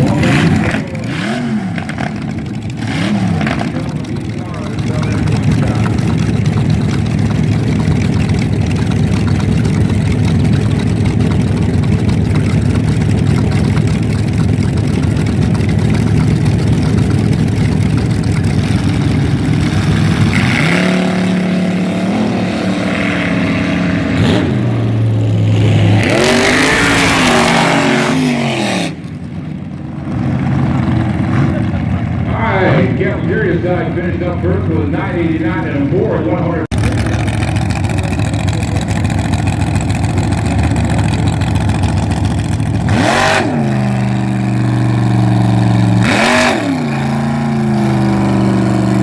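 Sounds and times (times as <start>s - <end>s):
dragster engine revving: 0.0s - 49.0s.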